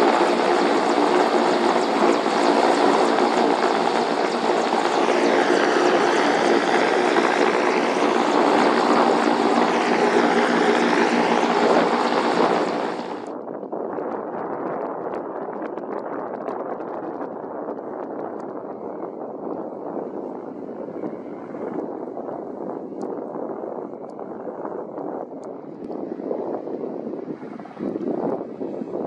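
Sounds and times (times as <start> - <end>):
helicopter engines and rotor: 0.0 - 13.4, 18.0 - 29.0.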